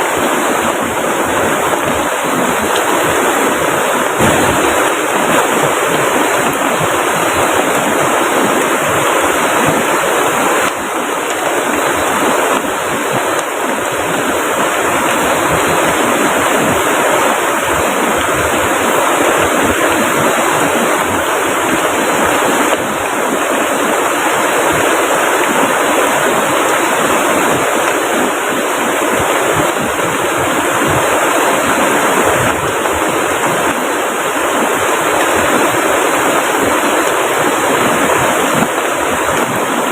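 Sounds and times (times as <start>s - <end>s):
heavy rain falling: 0.0s - 39.9s
rushing river: 0.0s - 39.9s.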